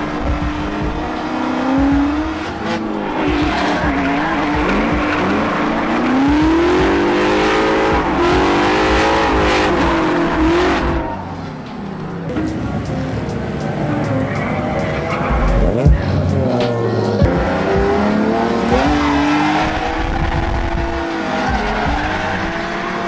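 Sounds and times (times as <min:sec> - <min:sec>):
car engines revving hard: 0:00.0 - 0:23.0
tires squealing: 0:00.0 - 0:23.0.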